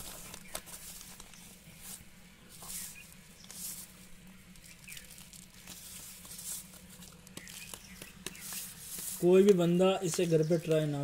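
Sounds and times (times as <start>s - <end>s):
newspaper rustling: 0.0s - 11.0s.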